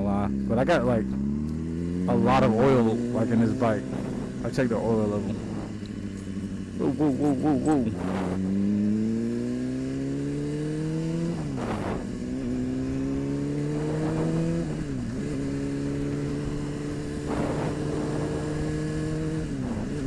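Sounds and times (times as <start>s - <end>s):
motorcycle engine accelerating: 0.0s - 20.0s
wind noise gusts: 1.6s - 7.0s, 7.6s - 9.4s, 10.5s - 20.0s.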